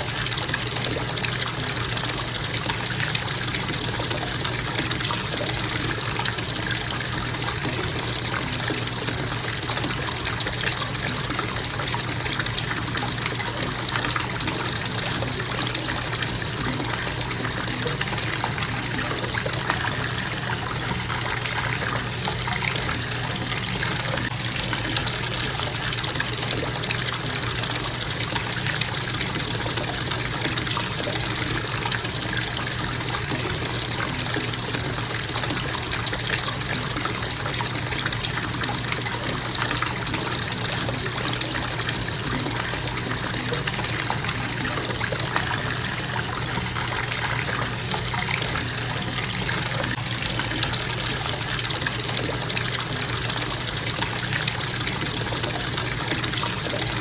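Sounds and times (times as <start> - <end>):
faucet water running into tub: 0.0 - 57.0.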